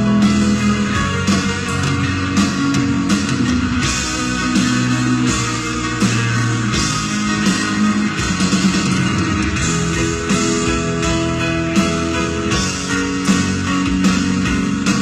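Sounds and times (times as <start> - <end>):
electric guitar: 0.0 - 15.0
rock band playing power ballad: 0.0 - 15.0.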